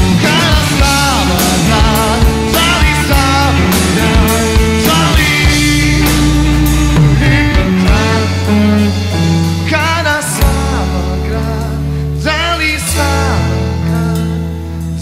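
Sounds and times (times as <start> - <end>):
bass guitar: 0.0 - 15.0
drums: 0.0 - 15.0
electric guitars: 0.0 - 15.0
high melody with bent notes: 0.0 - 15.0.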